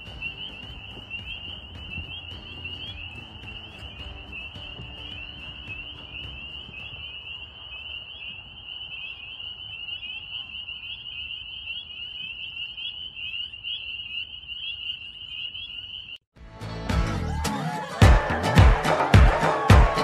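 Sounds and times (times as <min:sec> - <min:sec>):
chorus of frogs peeping: 0:00.0 - 0:16.2.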